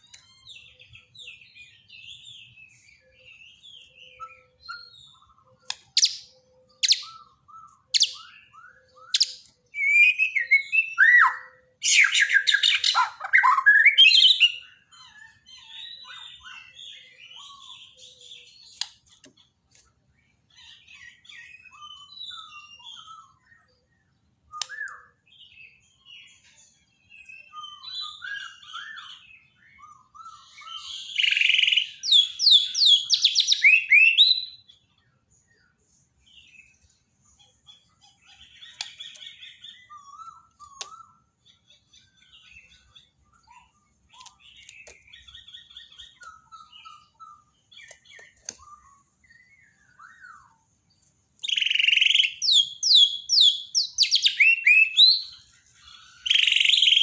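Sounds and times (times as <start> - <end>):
songbird whistling and chattering: 0.0 - 19.3, 20.4 - 23.9, 24.5 - 35.7, 36.3 - 50.8, 51.4 - 57.0.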